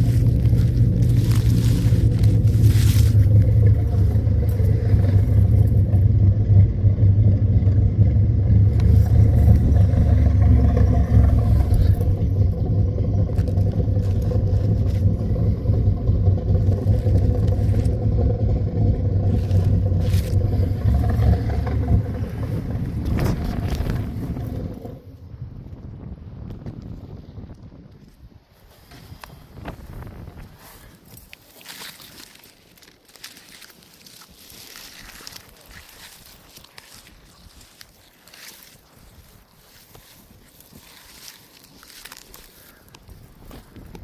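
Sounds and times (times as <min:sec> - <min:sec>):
engine running with deep exhaust: 0:00.0 - 0:27.6, 0:28.7 - 0:44.0.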